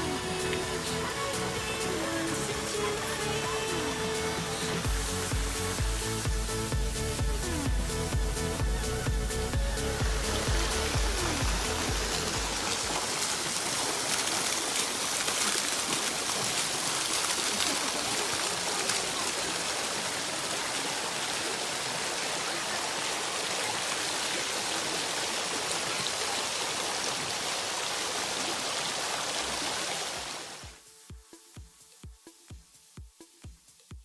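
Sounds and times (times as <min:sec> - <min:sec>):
fountain water splashing: 0:00.0 - 0:30.8.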